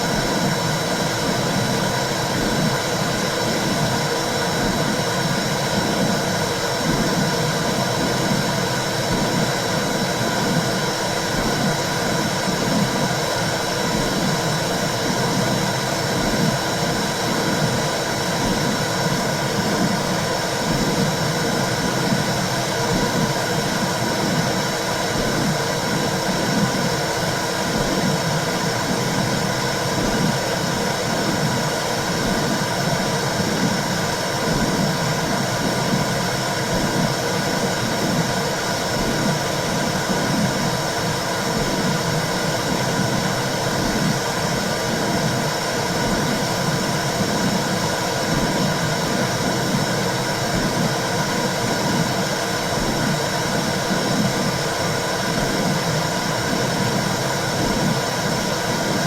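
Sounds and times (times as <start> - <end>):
low regular pulsing: 0.0 - 59.0.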